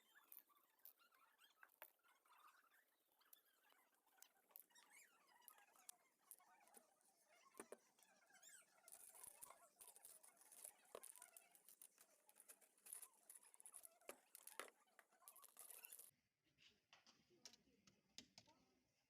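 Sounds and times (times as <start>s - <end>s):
faint scratching: 0.0s - 16.1s.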